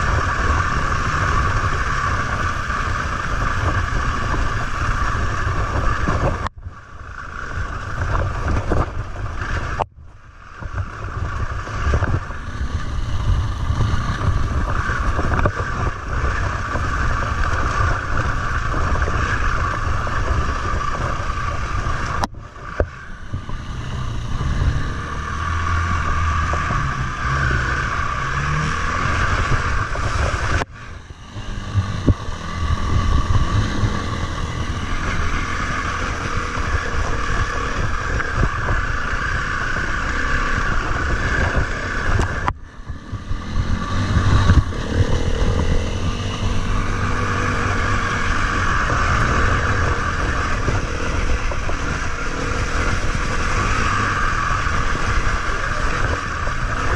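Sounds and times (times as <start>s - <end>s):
bike rattling over bumps: 0.0s - 56.9s
motorcycle engine revving: 0.0s - 56.9s
wind on microphone: 0.0s - 56.9s.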